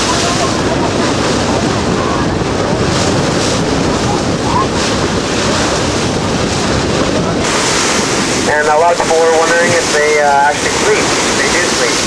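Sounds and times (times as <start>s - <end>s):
sea water splashing: 0.0s - 12.0s
wind buffeting microphone: 0.0s - 12.0s.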